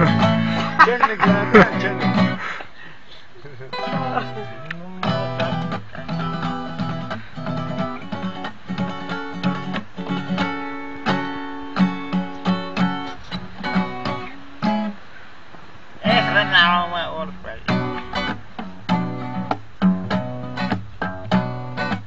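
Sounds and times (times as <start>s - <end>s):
acoustic guitar strumming: 0.0s - 2.6s, 3.4s - 15.0s, 16.0s - 22.0s.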